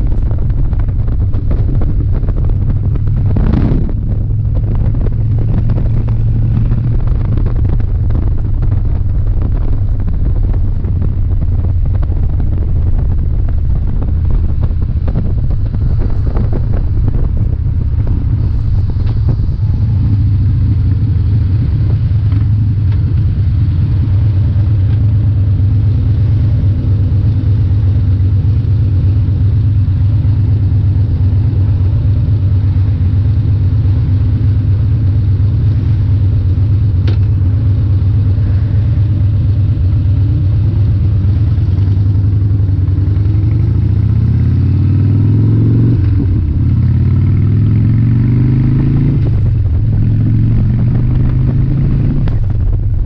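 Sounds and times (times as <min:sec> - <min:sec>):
motorcycle engine: 0:00.0 - 0:53.0
wind rush over microphone: 0:00.0 - 0:53.0.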